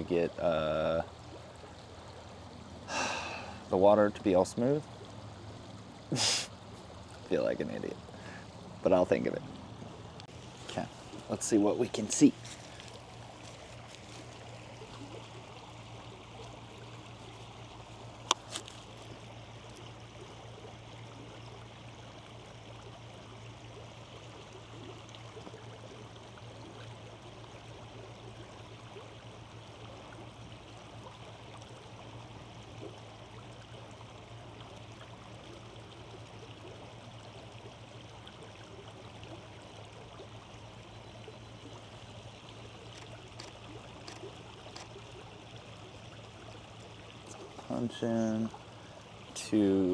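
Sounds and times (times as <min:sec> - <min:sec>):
creek flowing: 0:00.0 - 0:49.9.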